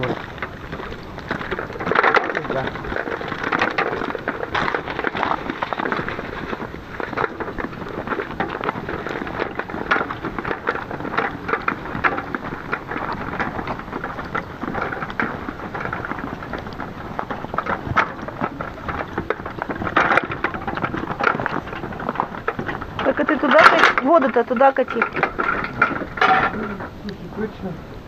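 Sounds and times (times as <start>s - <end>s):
metal clatter: 0.0s - 27.0s
cart wheels crunching over snow: 0.0s - 28.0s.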